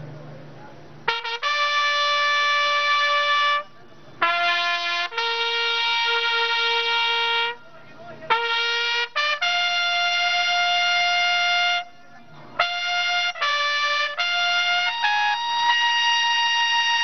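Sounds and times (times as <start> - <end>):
trumpet playing military call: 1.0 - 17.0.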